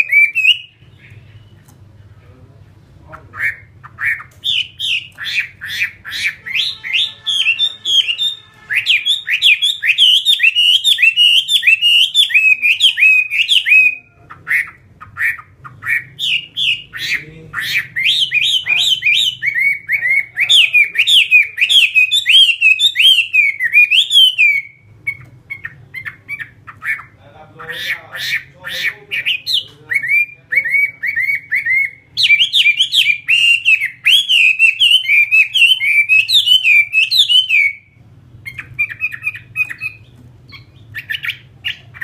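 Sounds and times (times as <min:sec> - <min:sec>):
bird singing whistled notes: 0:00.0 - 0:01.7, 0:04.4 - 0:14.2, 0:15.9 - 0:26.5, 0:29.2 - 0:42.0.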